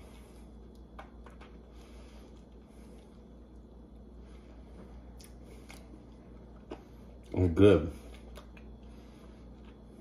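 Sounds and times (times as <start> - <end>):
soft chewing: 0.0 - 7.4, 8.0 - 10.0
low hum: 0.0 - 10.0.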